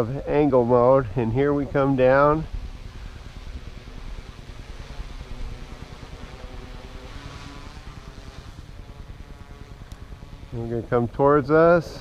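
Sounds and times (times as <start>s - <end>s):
drone motors humming: 0.0s - 12.0s
wind rumbling on microphone: 0.0s - 12.0s.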